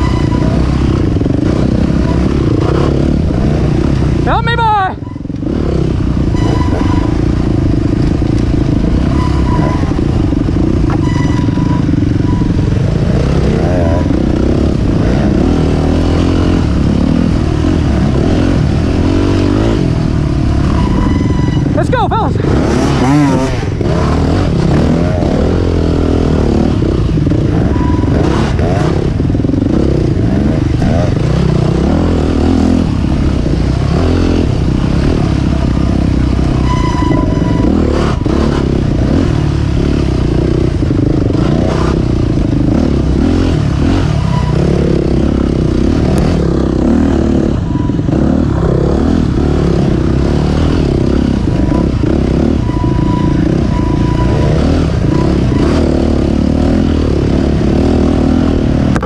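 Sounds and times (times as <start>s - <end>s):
dirt bike engines running: 0.0s - 59.0s.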